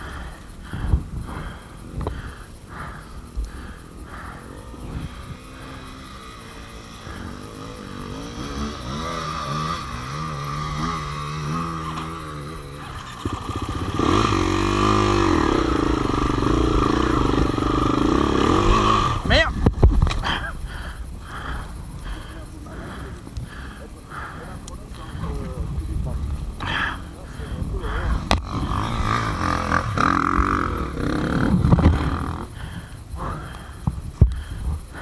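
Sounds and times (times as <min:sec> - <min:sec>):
motorcycle engine revving: 0:00.0 - 0:20.0, 0:25.1 - 0:33.8.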